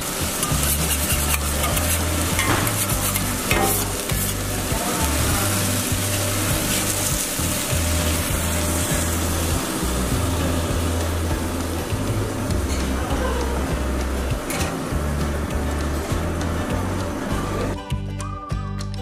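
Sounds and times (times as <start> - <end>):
meat patty sizzling on griddle: 0.0 - 17.4
background music bass notes: 0.0 - 19.0.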